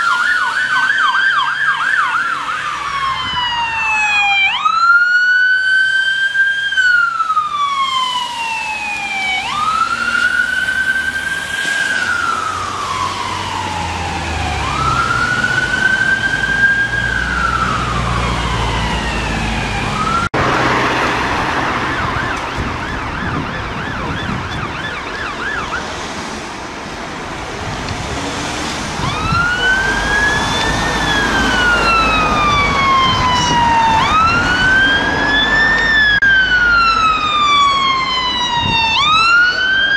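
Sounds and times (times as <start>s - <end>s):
ambulance siren wailing: 0.0s - 26.0s, 28.8s - 39.9s
fire engine siren yelping and wailing: 0.0s - 39.9s
traffic noise: 0.0s - 39.9s.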